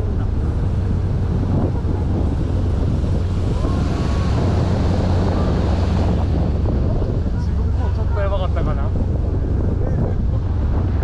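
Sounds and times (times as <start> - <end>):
boat engine drone: 0.0 - 11.0
water rushing past hull: 0.0 - 11.0
wind buffeting microphone: 0.0 - 11.0.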